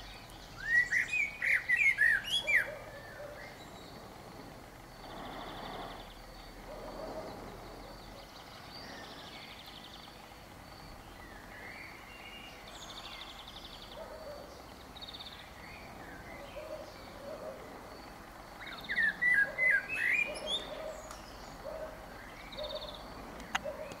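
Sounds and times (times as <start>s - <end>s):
blackbird singing: 0.0s - 4.3s, 5.0s - 24.0s
birds calling and trilling: 0.0s - 24.0s.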